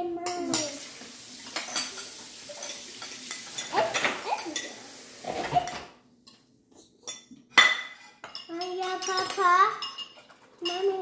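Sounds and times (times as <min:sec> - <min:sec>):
forks scraping ceramic plates: 0:01.6 - 0:11.0.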